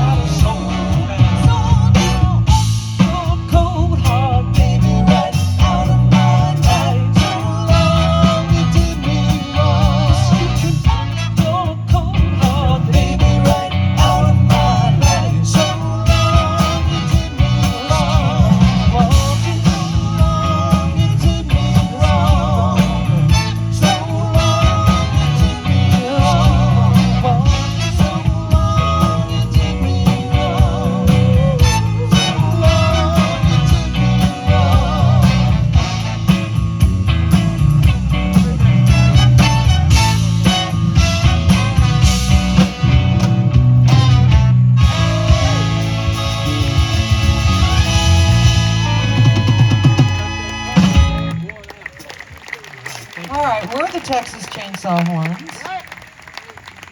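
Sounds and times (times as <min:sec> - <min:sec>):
vibrato horn melody: 0:00.0 - 0:03.0, 0:04.8 - 0:12.2, 0:13.2 - 0:37.1, 0:38.7 - 0:51.4
bass line: 0:00.0 - 0:51.6
drums: 0:00.0 - 0:56.9.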